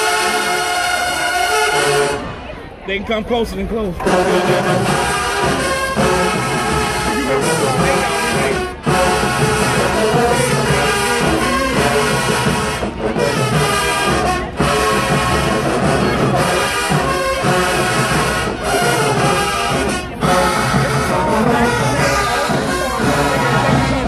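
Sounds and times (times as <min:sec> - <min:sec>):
brass marching band playing: 0:00.0 - 0:24.0.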